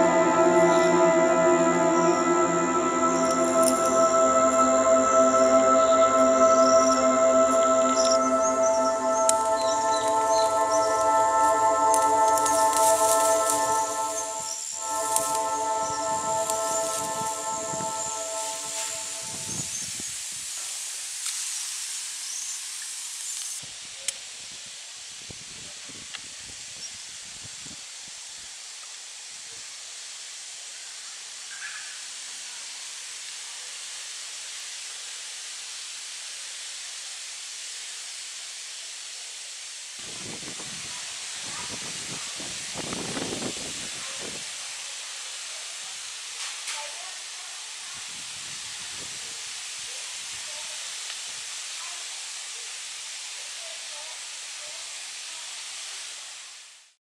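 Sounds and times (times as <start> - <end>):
high-pitched outdoor hiss: 0.0 - 57.0.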